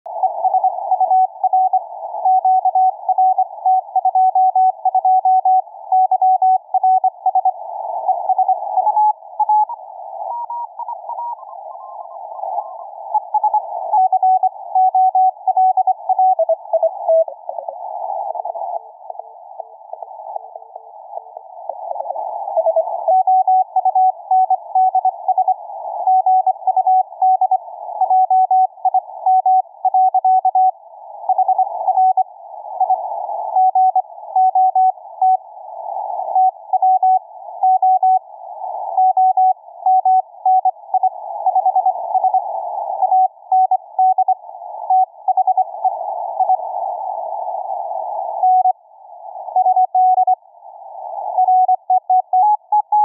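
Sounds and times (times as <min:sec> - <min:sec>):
radio band noise hiss: 0:00.1 - 0:05.0, 0:05.6 - 0:53.0.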